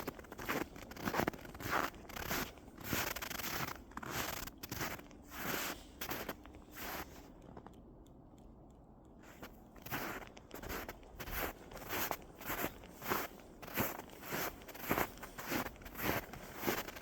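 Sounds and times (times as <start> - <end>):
footsteps crunching in snow: 0.0 - 7.6, 9.3 - 17.0.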